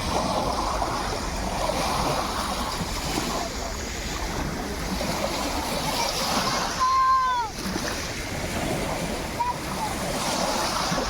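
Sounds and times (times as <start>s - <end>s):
sea waves washing on shore: 0.0s - 11.0s
wind buffeting microphone: 0.0s - 11.0s.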